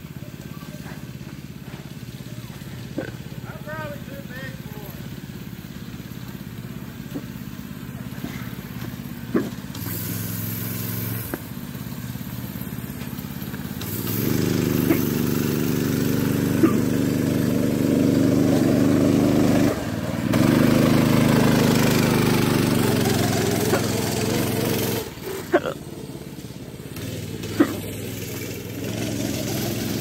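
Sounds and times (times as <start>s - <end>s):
go-kart engine running: 0.0s - 30.0s.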